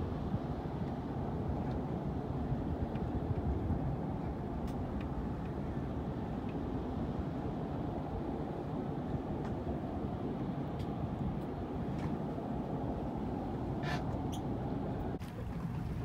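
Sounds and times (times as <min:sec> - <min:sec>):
low rumble of large ship: 0:00.0 - 0:16.0.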